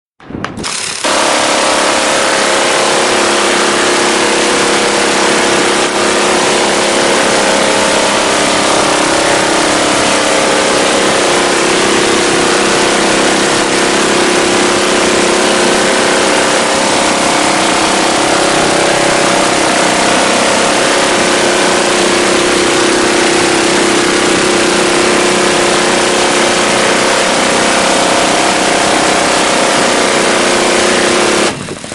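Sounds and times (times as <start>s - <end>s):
minigun firing: 0.2s - 31.9s.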